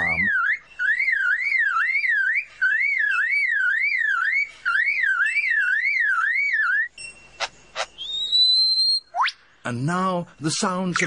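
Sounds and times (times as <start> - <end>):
bird mimicking car alarm: 0.0 - 9.4.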